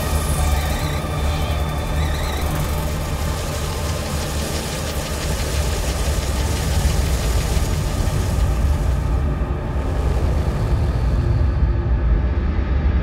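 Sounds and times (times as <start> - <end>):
low machine rumble with hiss: 0.0 - 12.6.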